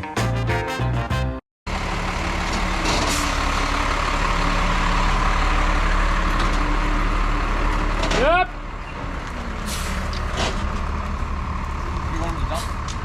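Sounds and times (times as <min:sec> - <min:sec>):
large truck engine running: 0:01.7 - 0:13.0.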